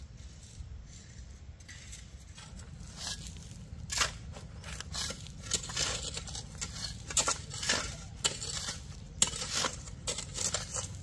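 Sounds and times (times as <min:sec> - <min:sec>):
scraping crunching strokes: 0:00.0 - 0:11.0.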